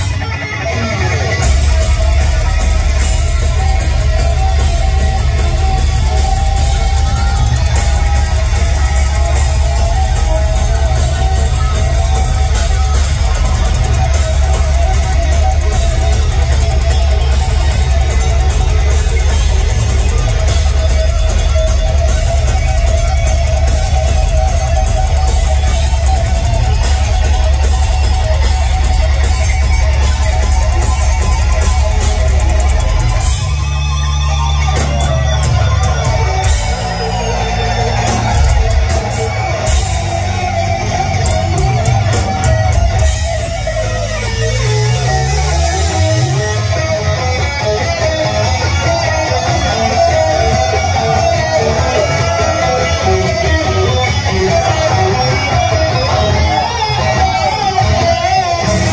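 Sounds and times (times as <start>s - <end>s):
heavy metal band playing live: 0.0s - 58.9s.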